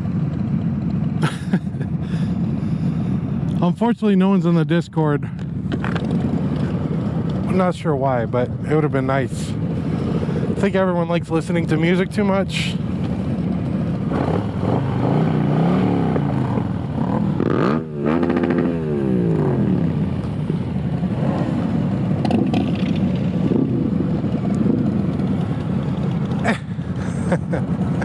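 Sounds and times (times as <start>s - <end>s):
motorcycle engines revving: 0.0s - 3.7s, 5.0s - 28.0s
wind and road noise: 0.0s - 28.0s.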